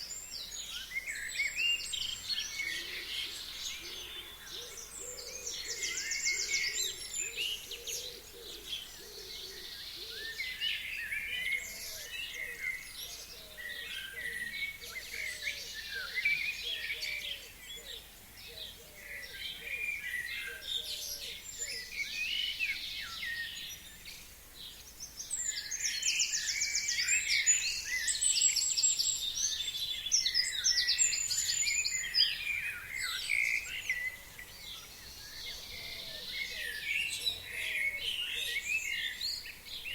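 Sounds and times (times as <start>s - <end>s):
forest birds singing: 0.0s - 39.9s.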